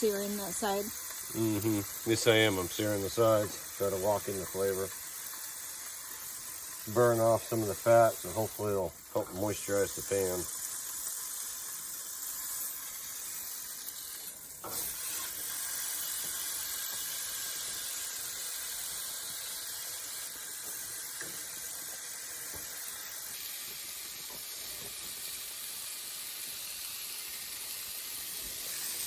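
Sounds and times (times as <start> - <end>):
steak sizzling in a pan: 0.0 - 29.0.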